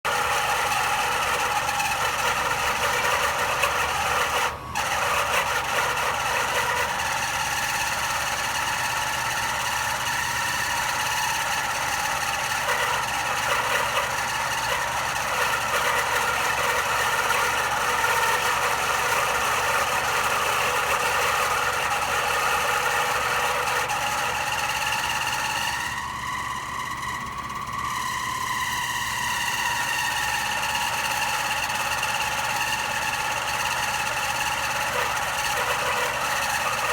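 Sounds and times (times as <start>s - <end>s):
air conditioning unit running: 0.0s - 36.9s.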